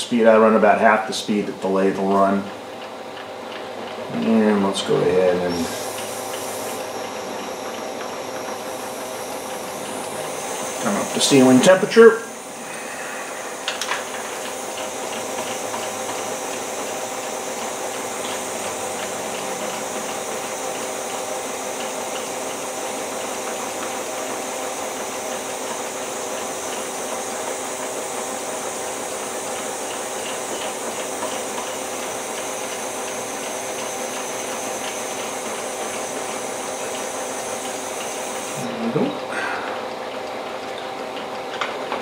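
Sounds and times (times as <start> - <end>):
lathe humming: 0.0 - 42.0
gas torch hissing: 4.8 - 39.9.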